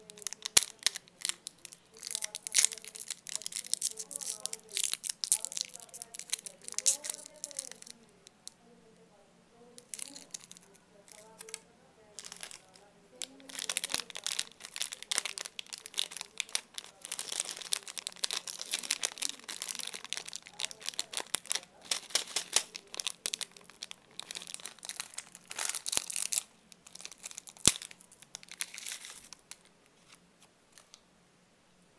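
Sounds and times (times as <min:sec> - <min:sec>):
plastic wrapper crinkling and tearing: 0:00.0 - 0:08.0, 0:09.8 - 0:11.6, 0:12.2 - 0:31.0.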